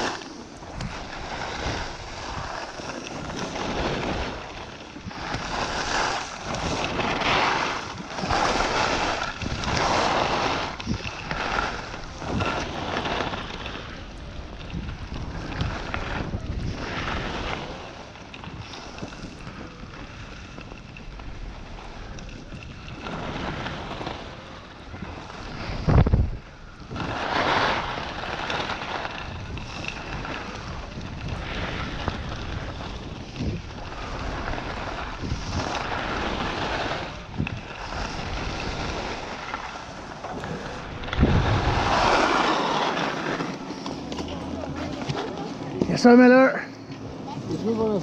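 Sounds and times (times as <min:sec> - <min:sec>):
skis sliding over snow: 0:00.0 - 0:48.0
wind buffeting microphone: 0:00.0 - 0:48.0.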